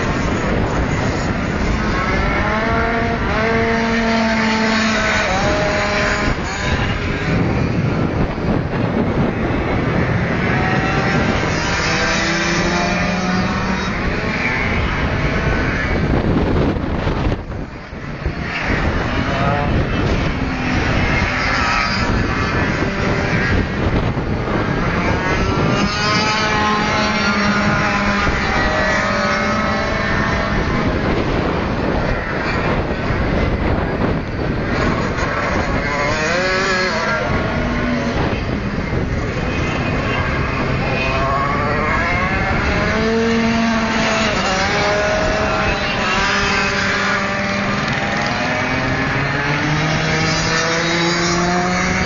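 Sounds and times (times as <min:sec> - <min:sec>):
racing kart engines revving: 0:00.0 - 0:52.0.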